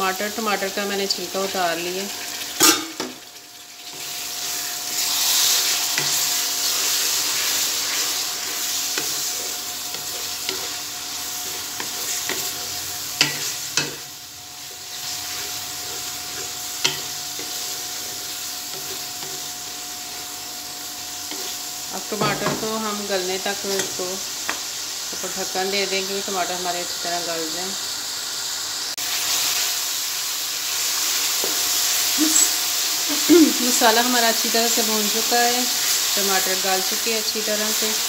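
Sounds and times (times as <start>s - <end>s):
tomatoes sizzling in hot oil: 0.0s - 38.0s.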